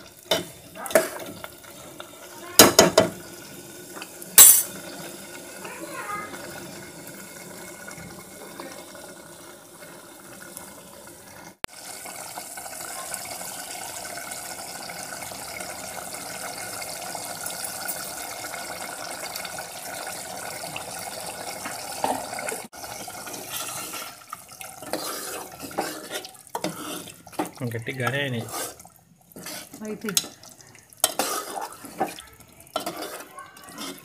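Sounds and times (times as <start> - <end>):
curry bubbling in a pot: 0.0 - 34.0.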